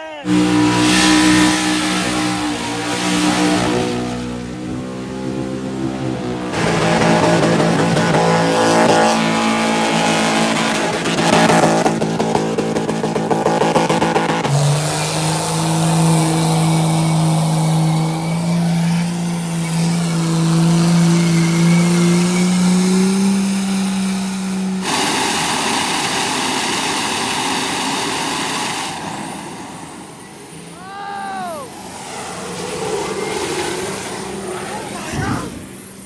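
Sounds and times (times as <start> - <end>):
car engine at high revs: 0.0 - 36.0.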